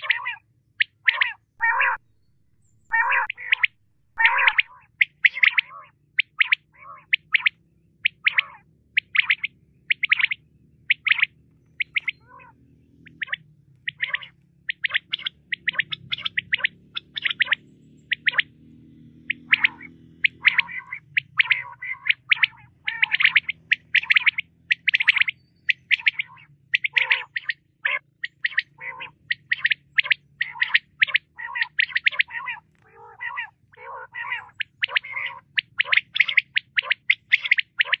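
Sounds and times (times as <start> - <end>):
quail calling: 0.0 - 38.0.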